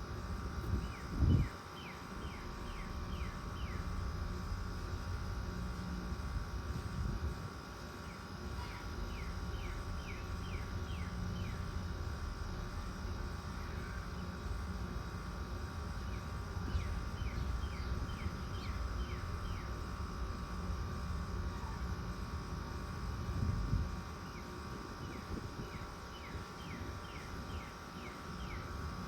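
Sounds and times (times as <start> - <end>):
air conditioner units humming: 0.0 - 29.0.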